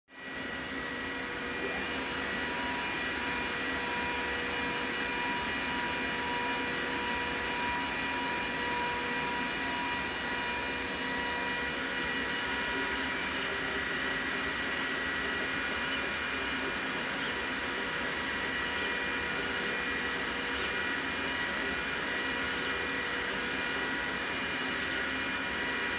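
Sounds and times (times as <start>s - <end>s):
steady whining fan tones: 0.1s - 25.9s.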